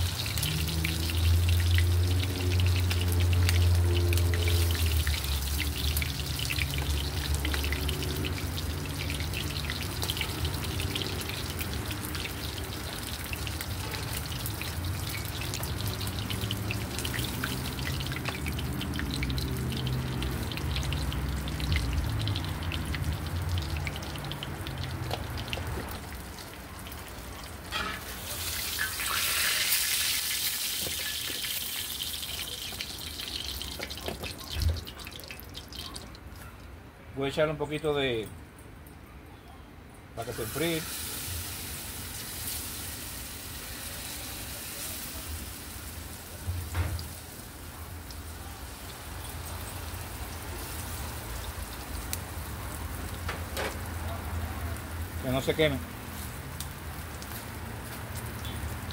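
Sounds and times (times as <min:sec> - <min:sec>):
hot oil sizzling: 0:00.0 - 0:36.5, 0:40.2 - 0:58.9.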